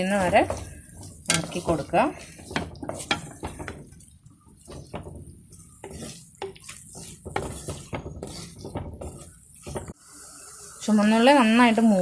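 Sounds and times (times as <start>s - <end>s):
spoon knocking and scraping pot: 0.0s - 10.0s
shallots sizzling in hot oil: 0.0s - 12.0s.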